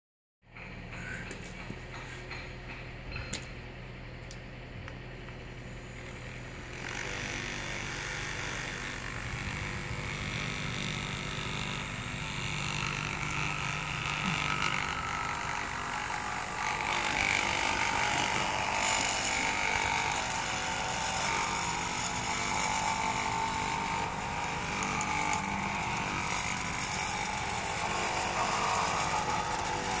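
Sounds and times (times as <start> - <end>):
concrete vibrator buzzing: 0.5 - 30.0.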